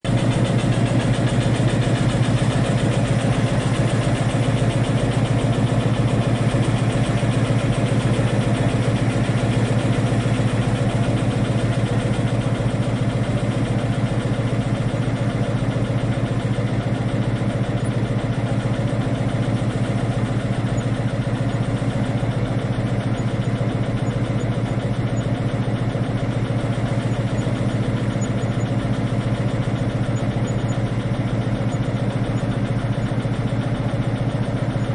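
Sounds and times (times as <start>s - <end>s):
diesel train engine throbbing: 0.0s - 34.9s.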